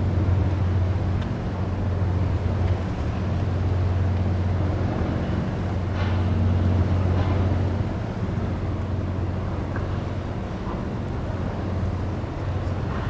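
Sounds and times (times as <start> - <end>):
ferry engines droning: 0.0 - 13.0
water noise: 0.0 - 13.0.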